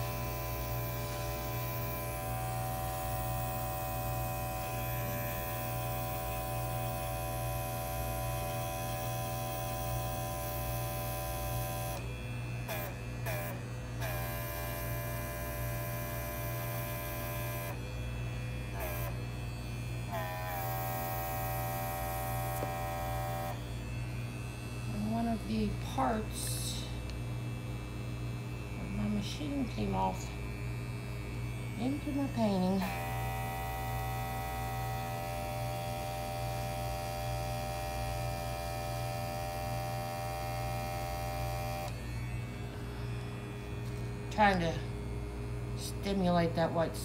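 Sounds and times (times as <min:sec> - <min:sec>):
airbrush compressor humming: 0:00.0 - 0:47.0.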